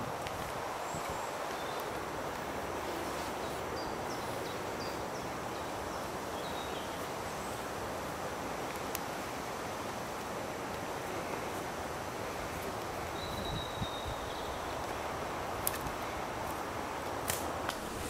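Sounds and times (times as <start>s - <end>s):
wind and rustling leaves: 0.0s - 18.0s.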